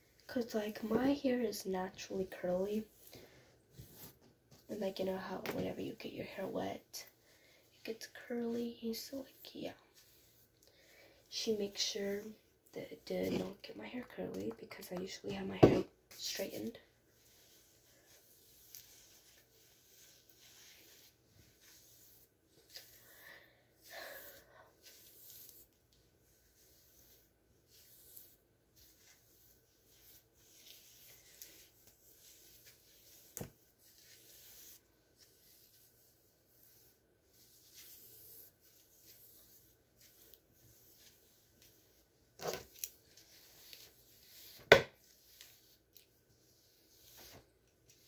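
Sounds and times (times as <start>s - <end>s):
fingers rustling through hair: 7.7s - 48.0s.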